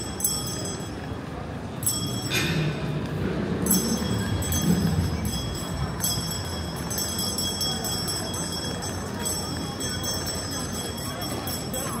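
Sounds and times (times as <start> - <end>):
bells jingling: 0.0 - 1.1, 1.8 - 2.4, 3.6 - 12.0.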